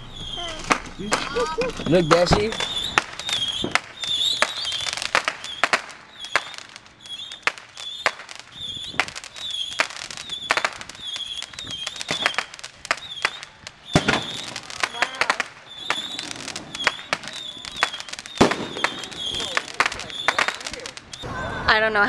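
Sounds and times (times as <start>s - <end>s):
fireworks popping and banging: 0.2s - 21.3s.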